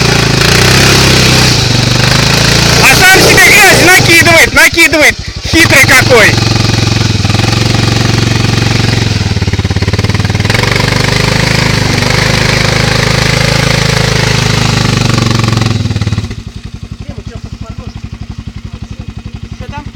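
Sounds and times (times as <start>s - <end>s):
quad bike engine revving hard: 0.0s - 19.9s
wheels spinning in mud: 0.0s - 19.9s.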